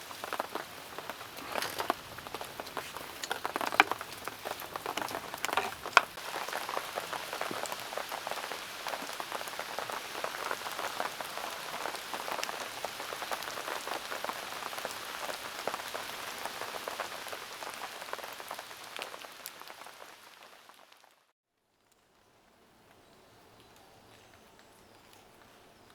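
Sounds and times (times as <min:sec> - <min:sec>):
heavy rain pattering: 0:00.0 - 0:21.1.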